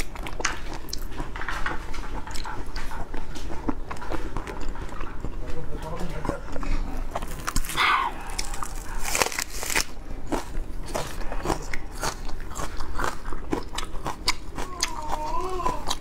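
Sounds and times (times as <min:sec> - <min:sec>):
prawns crunching and crackling: 0:00.0 - 0:16.0.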